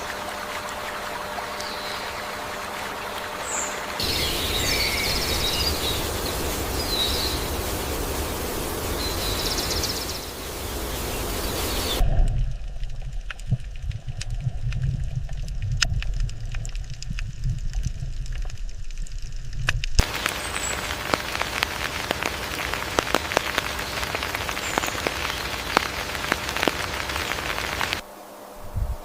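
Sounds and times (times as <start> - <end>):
low outdoor rumble: 0.0 - 29.0
dense crackling patter: 3.9 - 28.0.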